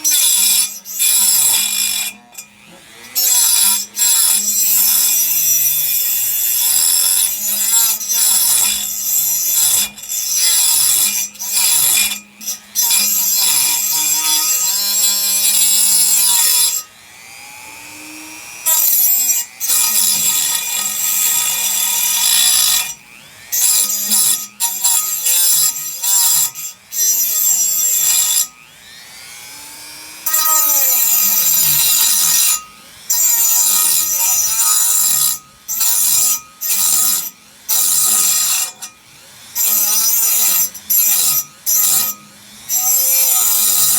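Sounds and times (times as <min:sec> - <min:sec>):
rotary tool cutting metal: 0:00.0 - 0:43.9.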